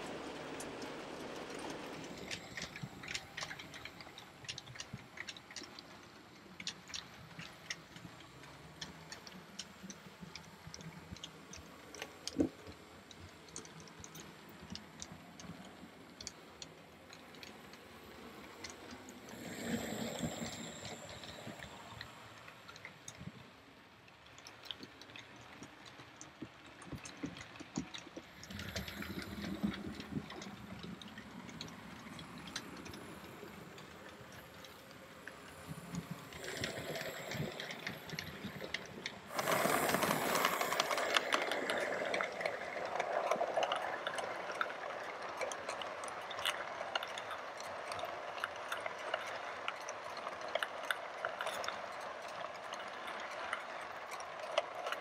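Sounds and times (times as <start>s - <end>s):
model train running on track: 0.0s - 55.0s
wheels clicking over rail joints: 0.0s - 55.0s.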